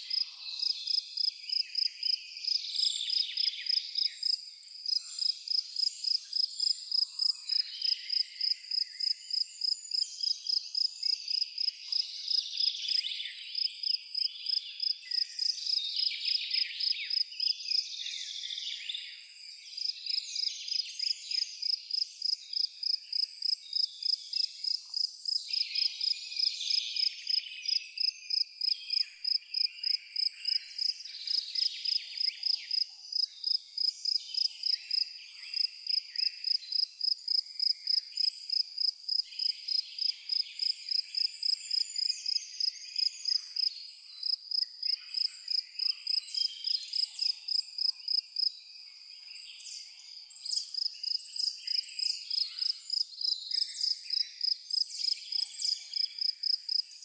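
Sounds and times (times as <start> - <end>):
cricket chirping: 0.1 - 17.5, 19.3 - 49.5, 50.1 - 57.0.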